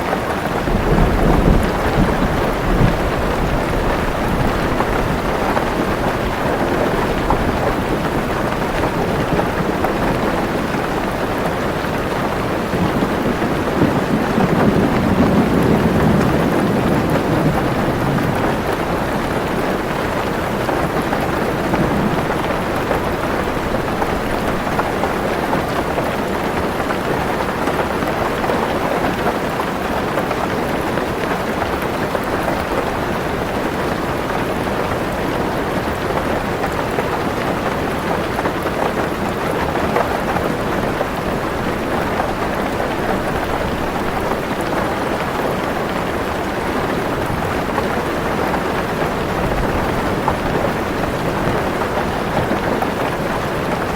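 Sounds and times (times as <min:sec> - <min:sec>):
heavy rain on car roof: 0:00.0 - 0:53.9.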